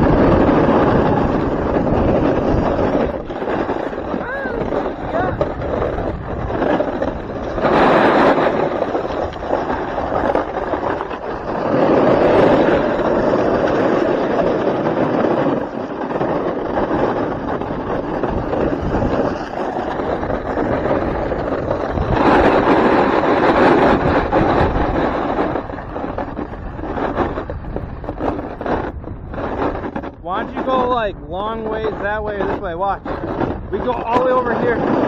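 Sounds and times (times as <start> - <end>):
snowboard scraping icy snow: 0.0 - 35.0
wind buffeting microphone: 0.0 - 35.0.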